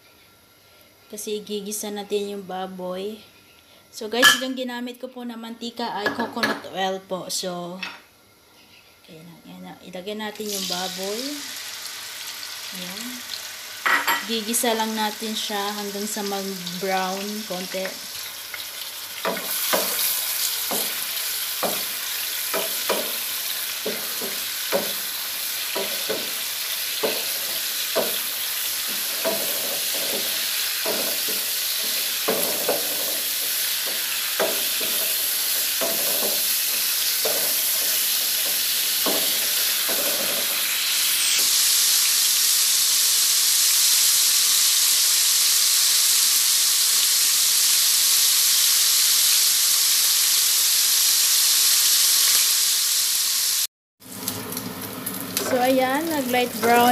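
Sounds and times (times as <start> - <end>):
meat sizzling in a frying pan: 10.3 - 56.9.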